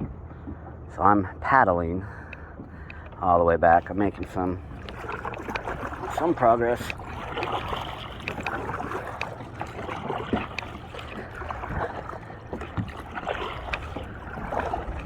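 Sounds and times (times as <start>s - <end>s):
kayak hull rocking on waves: 2.1s - 15.0s
paddle splashing in water: 2.3s - 15.0s.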